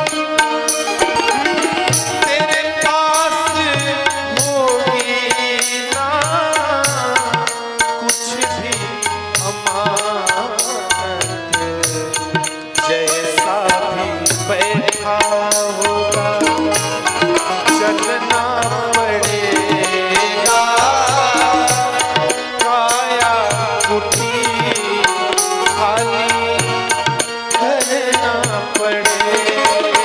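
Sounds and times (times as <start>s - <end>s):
hand drum rhythm: 0.0s - 30.0s.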